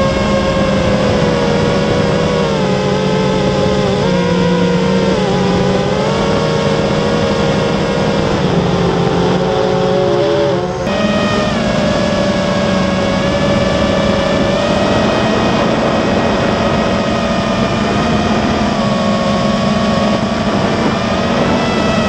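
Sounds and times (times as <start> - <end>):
quadcopter motors buzzing whine: 0.0 - 22.0.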